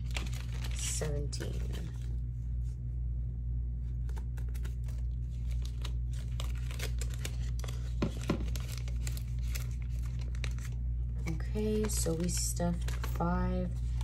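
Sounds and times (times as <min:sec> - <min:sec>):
paper bills crinkling and rustling: 0:00.0 - 0:02.1, 0:04.0 - 0:14.0.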